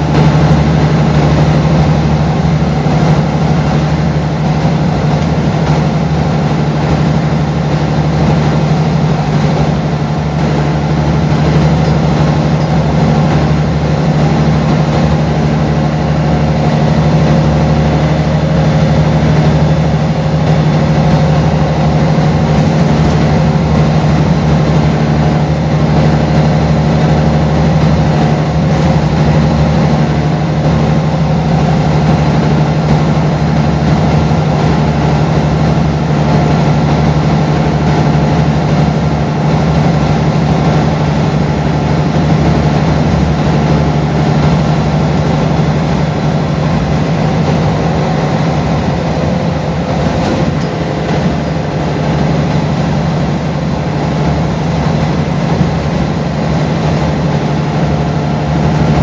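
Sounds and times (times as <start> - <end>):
bus diesel engine humming: 0.0 - 59.0.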